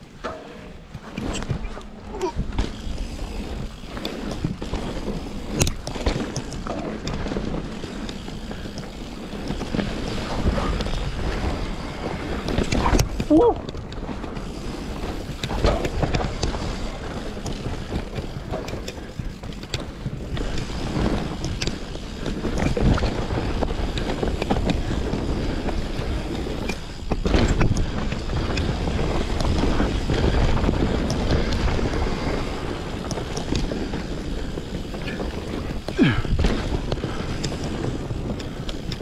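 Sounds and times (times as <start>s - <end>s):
bike rattling over bumps: 0.0s - 39.0s
bike tyres crunching over dirt: 0.0s - 39.0s.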